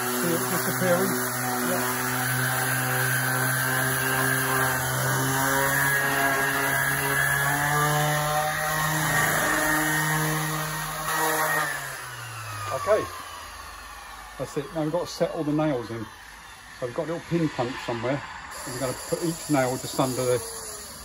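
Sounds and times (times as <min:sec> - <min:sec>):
orbital sander whine: 0:00.0 - 0:21.0.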